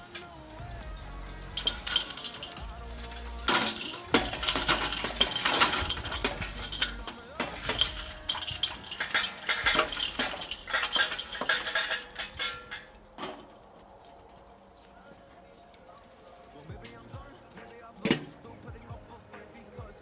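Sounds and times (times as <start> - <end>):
metal utensils clinking on dishes: 0.0 - 18.5.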